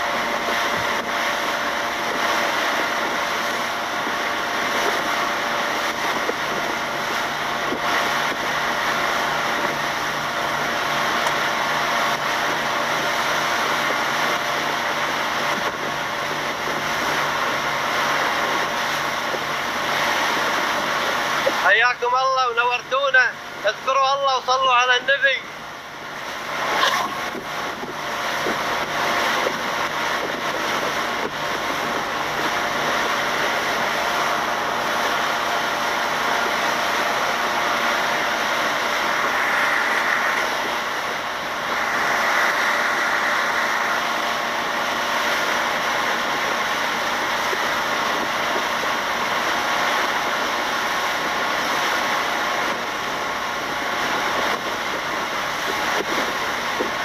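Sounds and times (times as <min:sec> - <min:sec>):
boat engine running: 0:00.0 - 0:57.0
rush of wind and water: 0:00.0 - 0:57.0.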